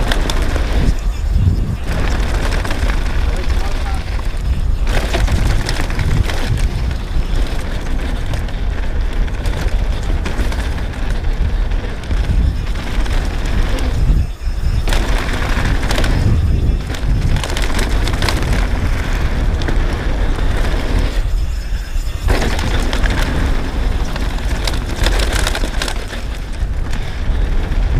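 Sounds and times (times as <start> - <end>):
bike chain and frame rattling: 0.0 - 27.9
wind rushing over microphone: 0.0 - 27.9.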